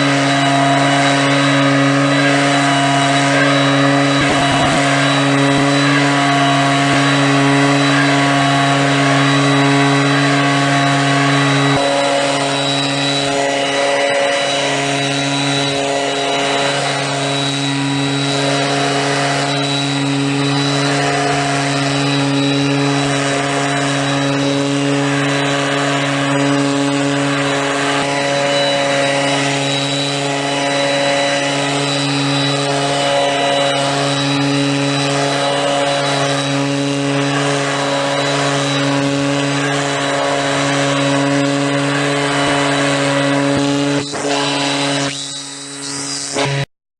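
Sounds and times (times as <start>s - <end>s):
blower rush of air: 0.0s - 46.7s
small petrol engine running: 0.0s - 46.7s.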